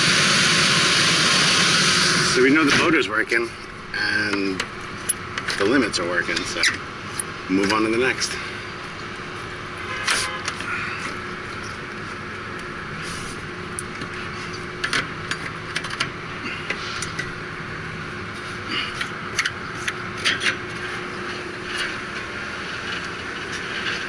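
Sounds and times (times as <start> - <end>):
hvac equipment humming: 0.0 - 24.0.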